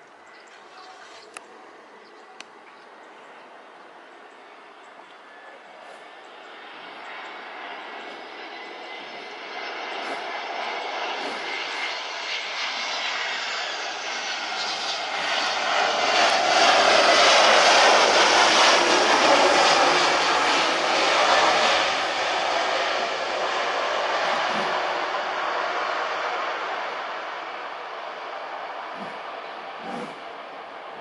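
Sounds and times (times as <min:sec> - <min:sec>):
jet airliner engines passing: 0:00.0 - 0:31.0.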